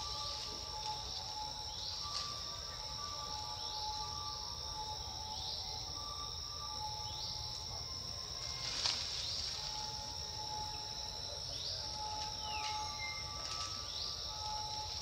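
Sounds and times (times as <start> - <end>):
high-pitched insect drone: 0.0 - 15.0
insect chirps: 0.0 - 15.0.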